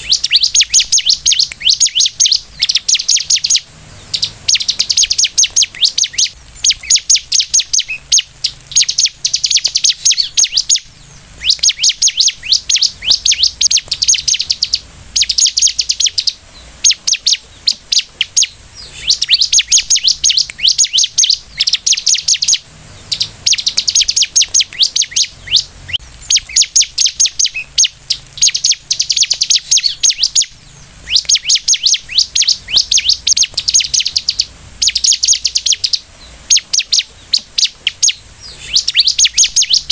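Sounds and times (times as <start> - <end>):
bird singing rapid high notes: 0.0 - 39.9.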